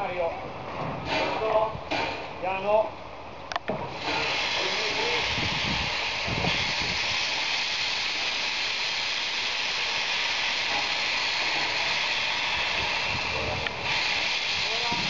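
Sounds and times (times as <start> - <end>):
steam locomotive venting steam: 1.0 - 2.4, 3.7 - 15.0.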